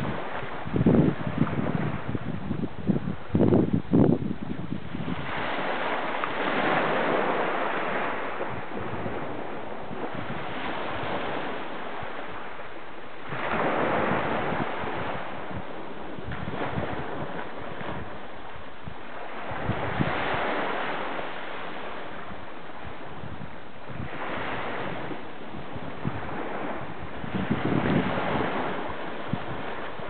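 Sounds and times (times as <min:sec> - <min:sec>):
waves breaking on sandy beach: 0:00.0 - 0:30.0
wind on microphone: 0:00.0 - 0:30.0.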